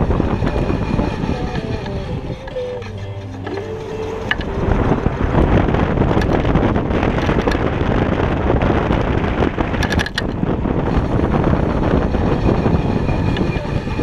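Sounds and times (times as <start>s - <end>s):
faint rising whine: 0.0s - 9.8s, 10.4s - 14.0s
road and tyre noise: 0.0s - 14.0s
wind buffeting microphone: 0.0s - 14.0s.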